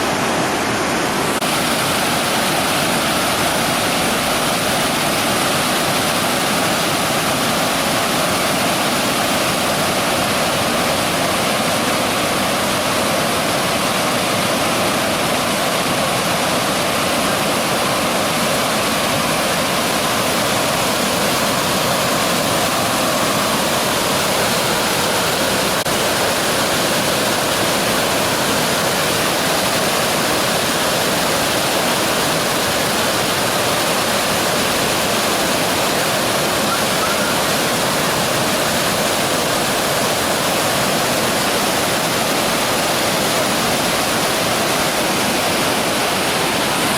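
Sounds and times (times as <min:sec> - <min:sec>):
river water rushing: 0:00.0 - 0:46.9.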